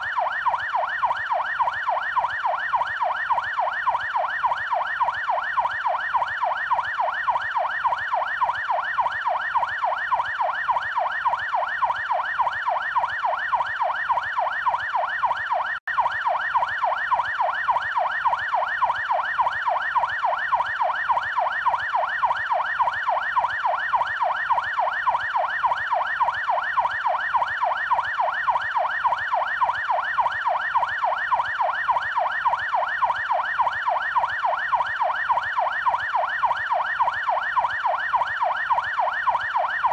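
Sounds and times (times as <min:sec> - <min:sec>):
police yelp siren: 0:00.0 - 0:39.9.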